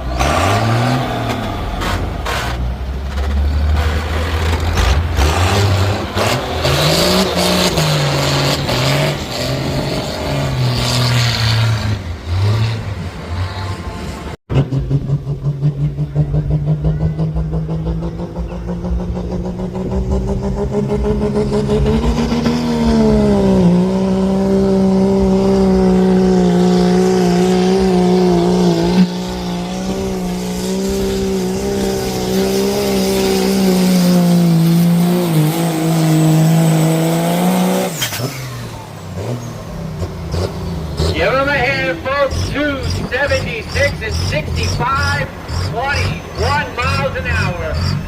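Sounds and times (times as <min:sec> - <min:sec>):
truck engine at full throttle: 0:00.0 - 0:48.0.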